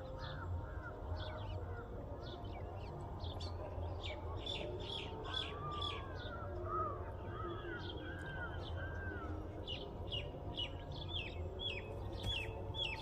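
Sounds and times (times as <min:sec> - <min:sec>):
birds calling and chirping: 0:00.0 - 0:13.0.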